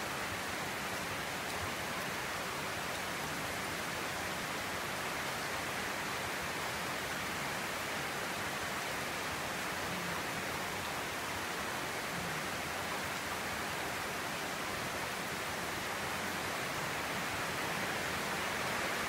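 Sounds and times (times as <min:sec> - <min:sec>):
steady rain on roof and trees: 0:00.0 - 0:19.0.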